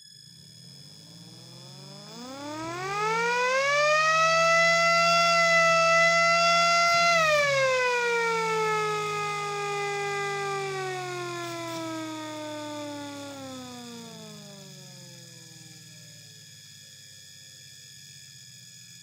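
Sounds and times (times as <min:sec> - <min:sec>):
mechanical siren wailing: 0:00.0 - 0:17.0.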